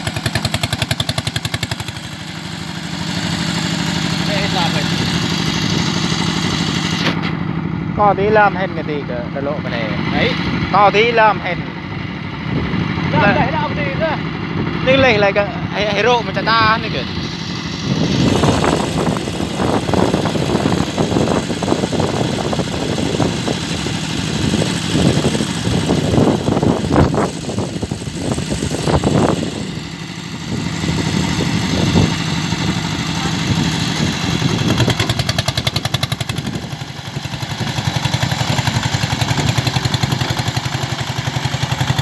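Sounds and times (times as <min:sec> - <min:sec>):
diesel engine chugging: 0:00.0 - 0:42.0.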